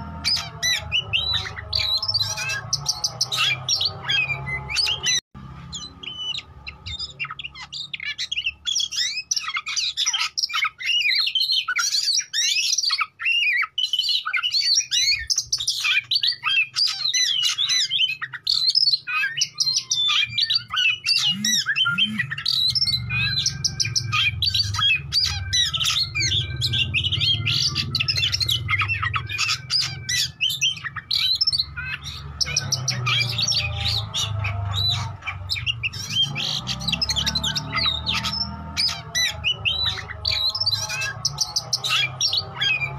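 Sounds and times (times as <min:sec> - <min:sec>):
magpie-robin singing: 0:00.0 - 0:42.9.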